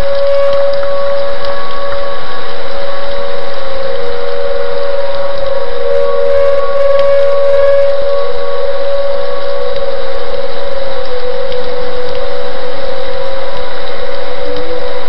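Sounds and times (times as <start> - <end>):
heavy rain: 0.0 - 15.0
warning siren wailing: 0.0 - 15.0.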